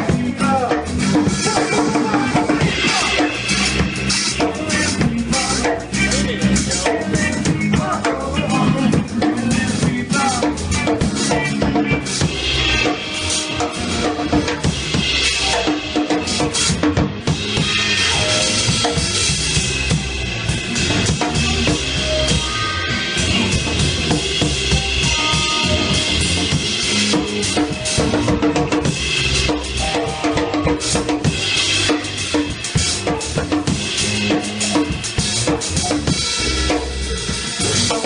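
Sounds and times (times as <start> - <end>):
bass drum and snare: 0.0 - 38.0
live band playing: 0.0 - 38.0.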